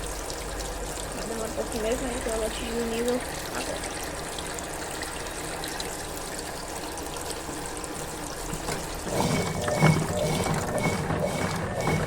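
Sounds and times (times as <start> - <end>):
water trickling into washing machine: 0.0 - 12.0.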